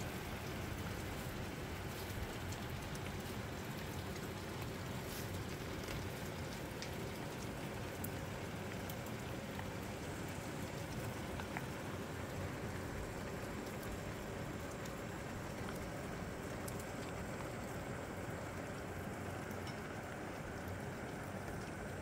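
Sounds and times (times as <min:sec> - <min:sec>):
raindrops ticking: 0:00.0 - 0:22.0
steady rain: 0:00.0 - 0:22.0.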